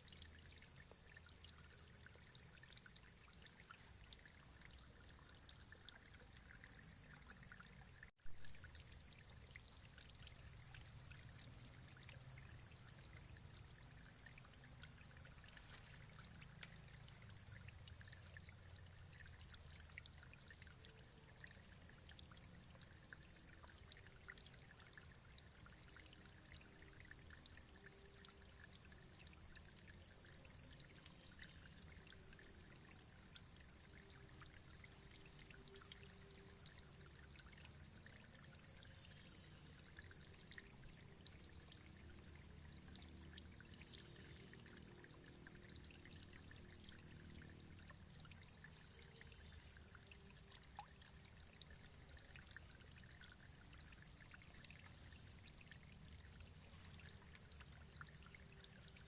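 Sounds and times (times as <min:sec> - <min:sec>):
faint running water: 0:00.0 - 0:59.0.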